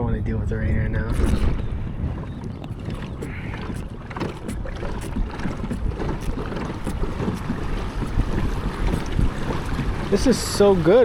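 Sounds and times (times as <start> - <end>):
water swishing along hull: 0.0 - 11.0
wind rumble on microphone: 0.0 - 11.0
small splashes: 1.2 - 11.0.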